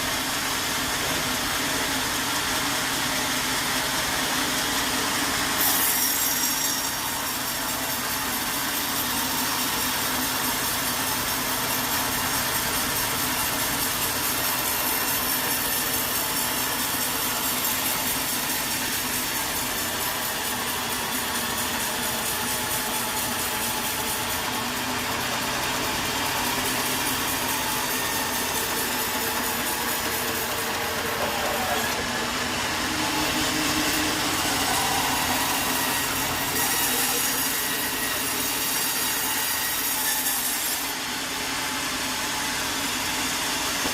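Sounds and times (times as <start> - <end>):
saw cutting through log: 0.0 - 43.9.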